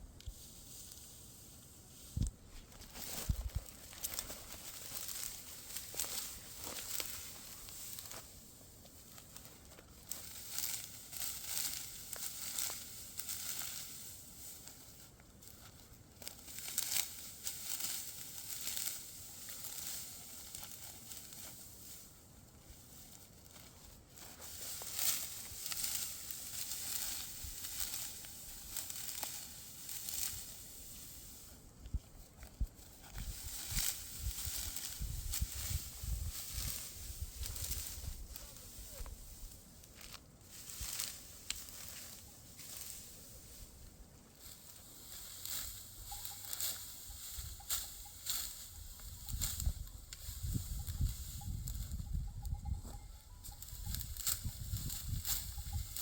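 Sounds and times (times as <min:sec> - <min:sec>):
dry wheat stalks rustling: 0:00.0 - 0:56.0.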